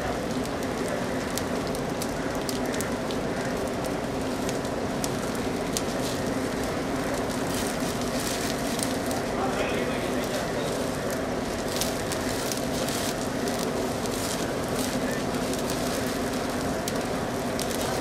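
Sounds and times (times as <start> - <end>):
fire crackling and popping: 0.0 - 18.0
fire rushing: 0.0 - 18.0.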